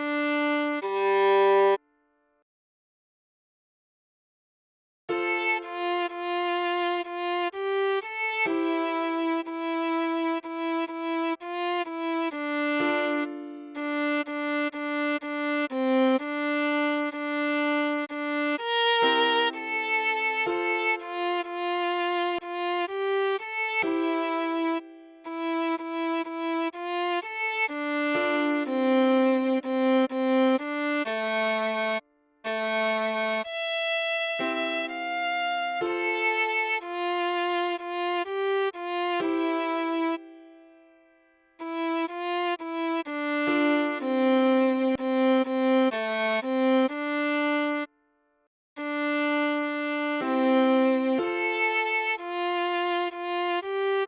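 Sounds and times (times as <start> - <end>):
solo viola melody: 0.0 - 1.8, 5.1 - 48.0, 48.8 - 54.0.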